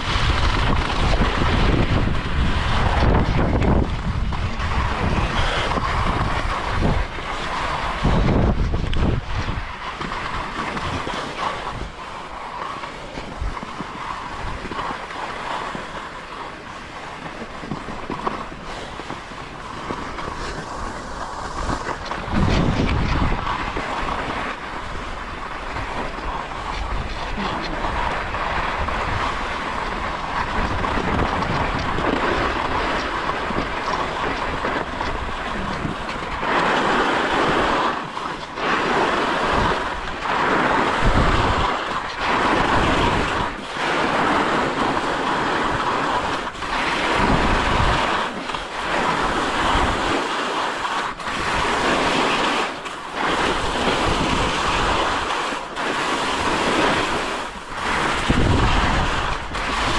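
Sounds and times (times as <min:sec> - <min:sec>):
skis scraping over snow: 0:00.0 - 0:59.9
wind rushing across microphone: 0:00.0 - 0:59.9.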